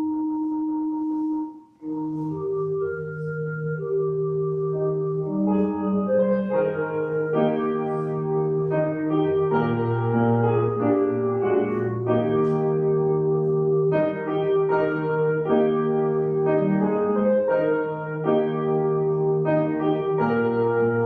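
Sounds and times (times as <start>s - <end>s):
slow keyboard chords: 0.0s - 21.0s.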